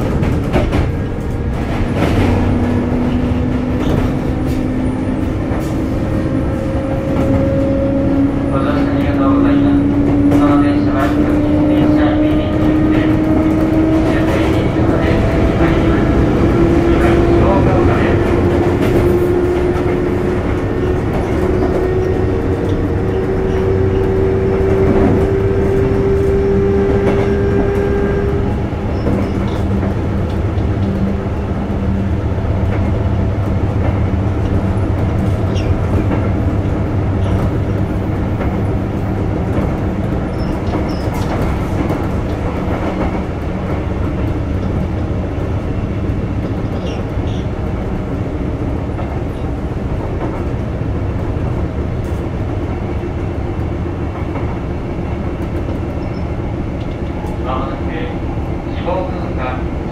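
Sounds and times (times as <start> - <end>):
clickety-clack of train wheels: 0.0 - 59.9
train wheels rumbling on rail: 0.0 - 59.9.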